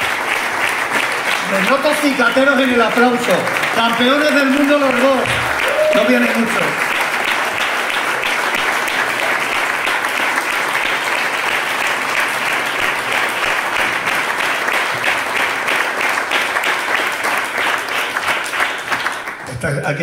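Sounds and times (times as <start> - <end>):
audience applauding: 0.0 - 19.7.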